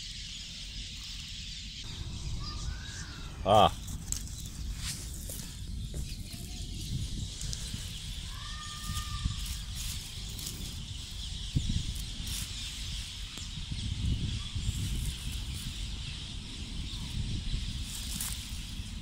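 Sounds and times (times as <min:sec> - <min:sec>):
rustling of logs and leaves: 0:02.4 - 0:19.0.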